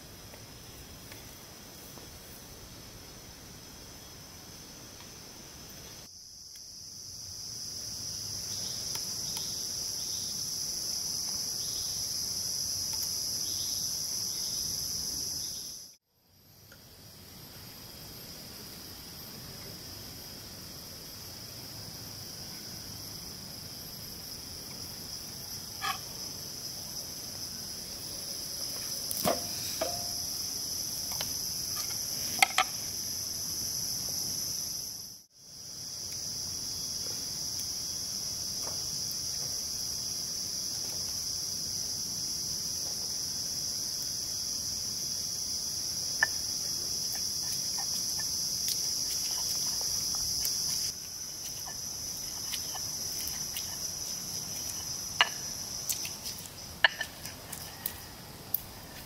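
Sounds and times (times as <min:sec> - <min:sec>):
forest insects chorus: 0:00.0 - 0:59.0.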